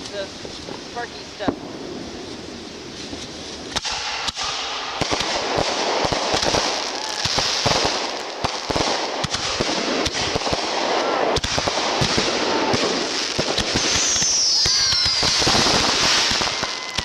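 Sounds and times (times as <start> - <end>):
fireworks crackling hiss: 0.0 - 17.0
fireworks pops and bangs: 0.0 - 17.0.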